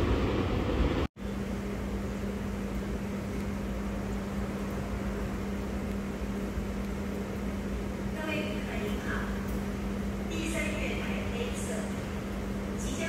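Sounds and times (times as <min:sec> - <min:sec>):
train carriage interior drone: 0:00.0 - 0:13.0.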